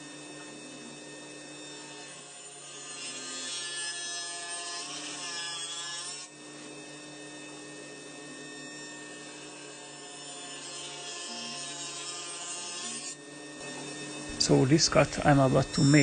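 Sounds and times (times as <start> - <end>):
table saw running: 0.0 - 16.0
saw cutting wooden board: 0.6 - 6.4, 7.5 - 16.0.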